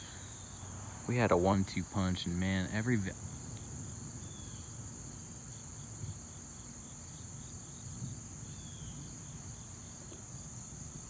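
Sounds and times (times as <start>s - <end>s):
crickets chirping: 0.0s - 11.0s
low outdoor noise: 0.0s - 11.0s.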